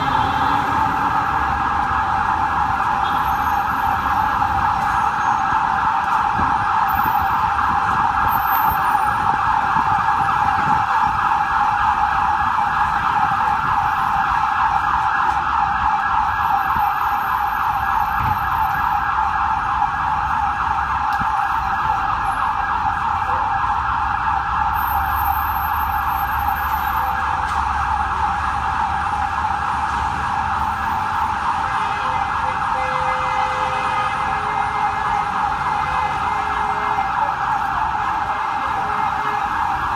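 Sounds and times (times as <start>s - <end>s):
emergency vehicle siren yelping: 0.0s - 39.9s
idling traffic rumble: 0.0s - 39.9s.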